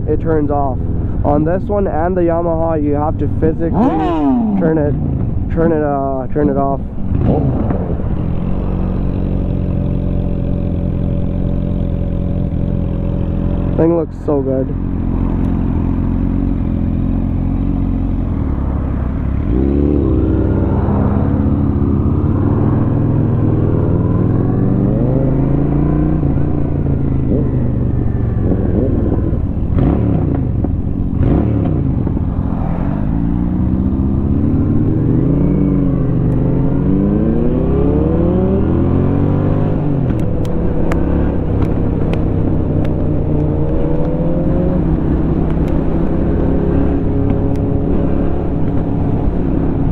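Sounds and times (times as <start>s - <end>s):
motorcycle engine revving through gears: 2.0s - 49.9s.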